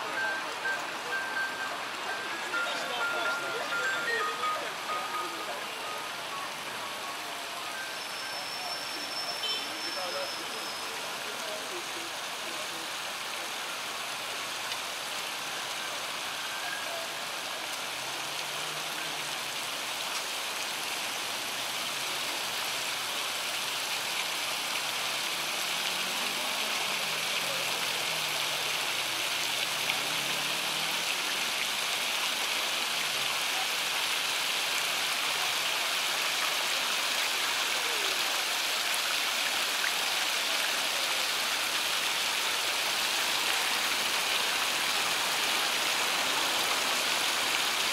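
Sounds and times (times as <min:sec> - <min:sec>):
fountain jets splashing: 0:00.0 - 0:47.9.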